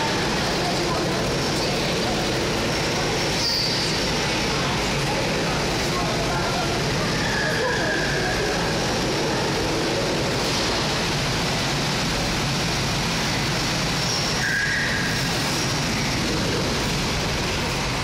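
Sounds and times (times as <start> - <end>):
go-kart engines running: 0.0 - 18.0.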